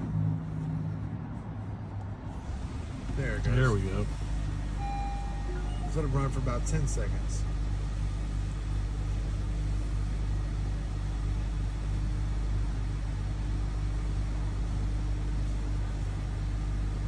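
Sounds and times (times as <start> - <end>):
car engine idling: 2.3 - 17.0.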